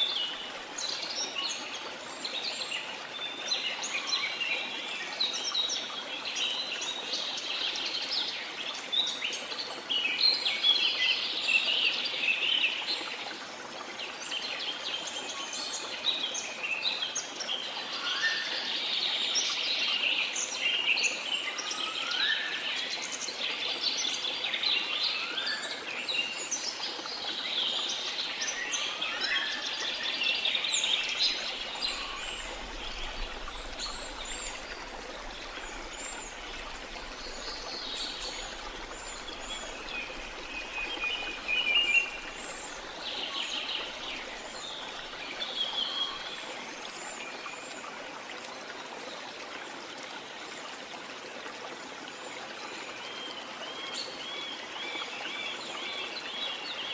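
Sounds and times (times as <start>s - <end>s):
running water hiss: 0.0s - 56.9s.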